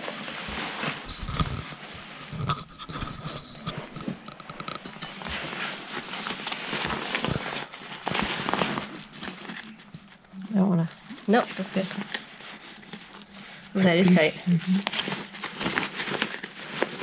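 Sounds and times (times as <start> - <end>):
fabric rustling and scraping: 0.0 - 17.0.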